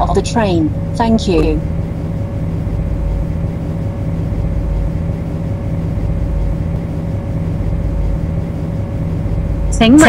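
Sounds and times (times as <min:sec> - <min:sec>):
train equipment humming: 0:00.0 - 0:10.0.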